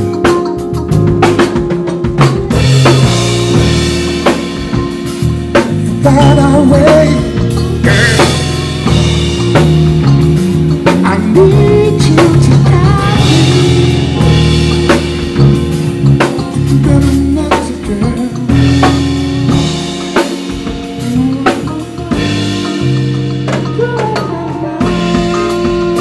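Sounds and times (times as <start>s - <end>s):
drum kit steady beat: 0.0s - 26.0s
electric bass low notes: 0.0s - 26.0s.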